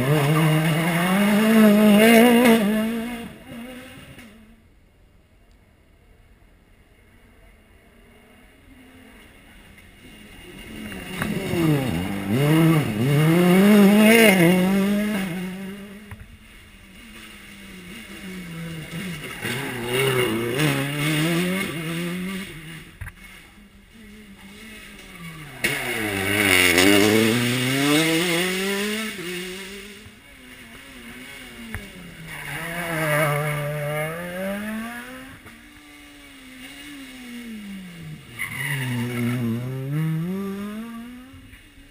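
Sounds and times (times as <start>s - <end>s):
rally car engine revving: 0.0s - 4.6s, 9.2s - 41.9s.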